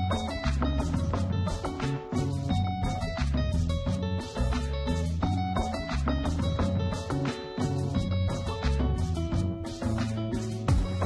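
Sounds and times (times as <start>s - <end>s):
upbeat instrumental guitar music: 0.0s - 11.0s.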